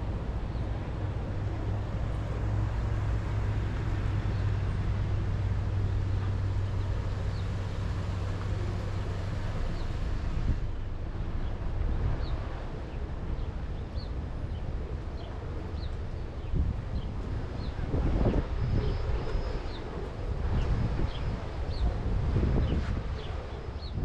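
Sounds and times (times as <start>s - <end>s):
low motor hum: 0.0s - 24.0s
noisy rumble: 0.0s - 24.0s.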